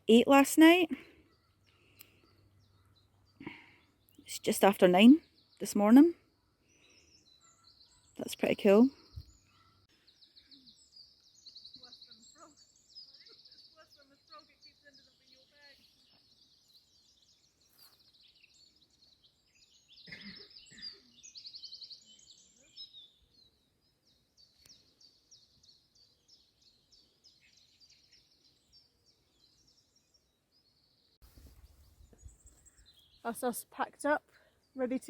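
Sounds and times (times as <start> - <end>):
small birds chirping and trilling: 0.0 - 35.0.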